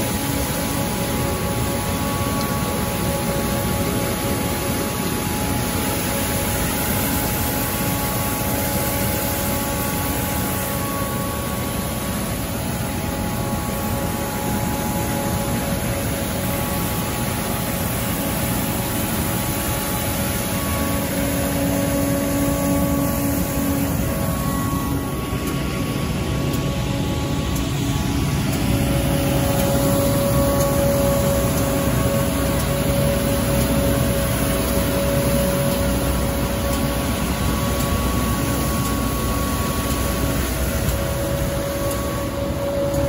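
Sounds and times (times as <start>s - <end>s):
faint steady whining tones: 0.0s - 43.0s
street sweeper engine and vacuum: 0.0s - 43.0s.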